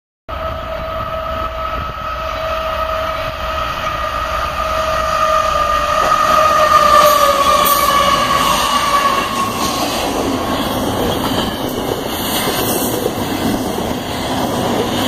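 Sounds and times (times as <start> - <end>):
freight train rumbling past: 0.3 - 15.0
locomotive high whine: 0.3 - 15.0.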